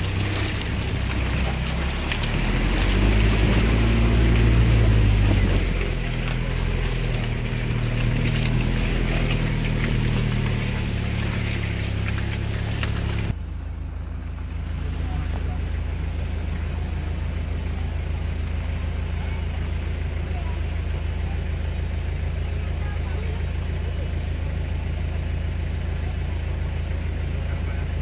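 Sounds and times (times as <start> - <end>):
vehicle engine pulling: 0.0 - 28.0.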